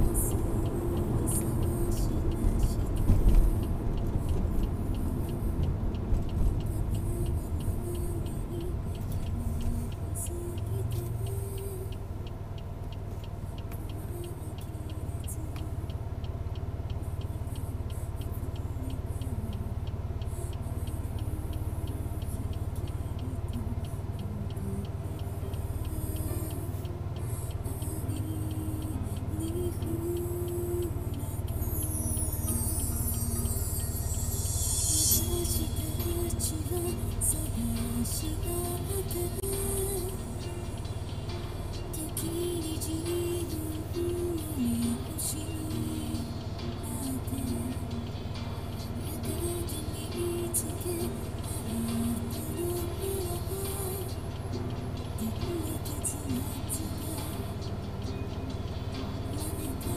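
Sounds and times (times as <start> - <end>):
car idling hum: 0.0 - 59.9.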